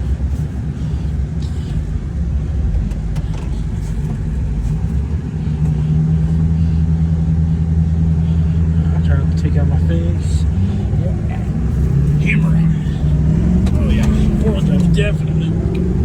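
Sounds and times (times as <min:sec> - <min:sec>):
diesel pickup engine under load: 0:00.0 - 0:16.0.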